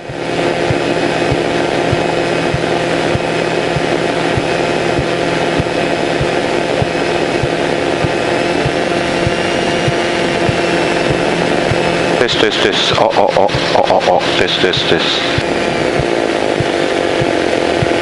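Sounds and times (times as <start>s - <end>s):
aircraft engine idling: 0.0s - 18.0s.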